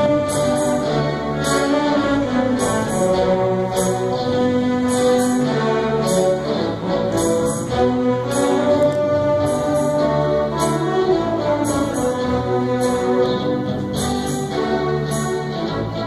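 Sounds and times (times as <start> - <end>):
orchestra playing: 0.0 - 16.0.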